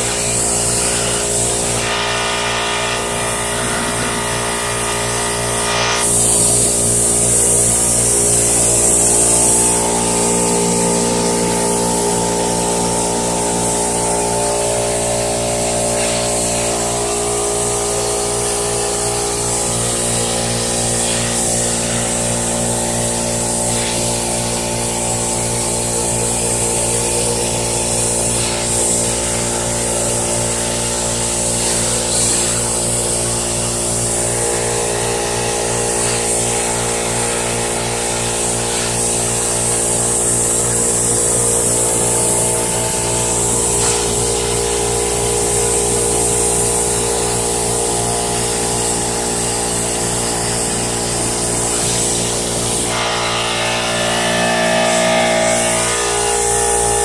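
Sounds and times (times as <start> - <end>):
plasma torch arc hissing: 0.0 - 57.0
steady layered hum: 0.0 - 57.0.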